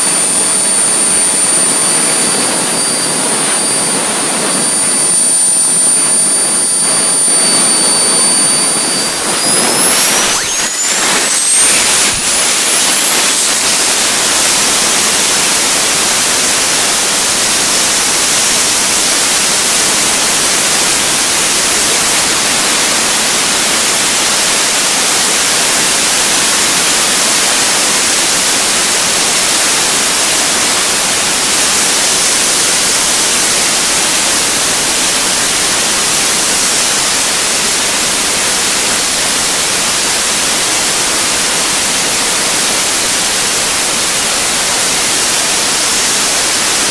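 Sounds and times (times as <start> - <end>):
jet turbine engine whistling roar: 0.0 - 46.9.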